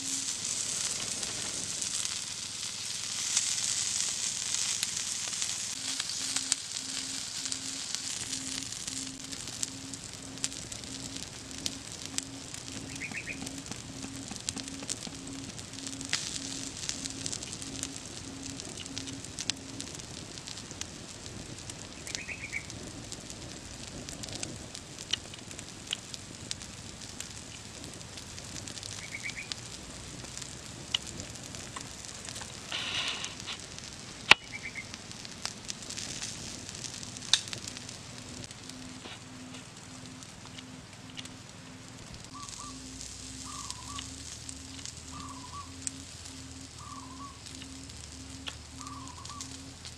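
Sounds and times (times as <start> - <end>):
frogs sizzling on hot stone: 0.0 - 49.9
wood fire crackling and popping: 0.0 - 49.9.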